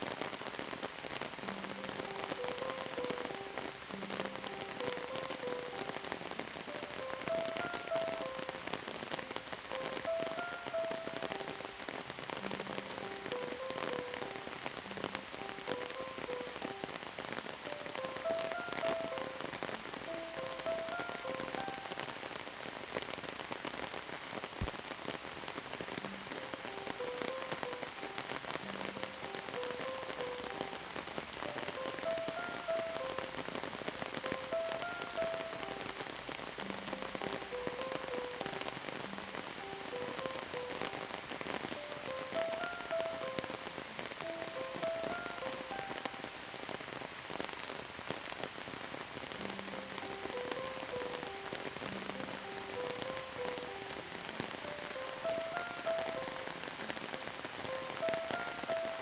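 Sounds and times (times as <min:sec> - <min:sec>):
rain pattering: 0:00.0 - 0:59.0
soft melody of held notes: 0:01.2 - 0:22.7, 0:25.6 - 0:47.0, 0:49.3 - 0:59.0.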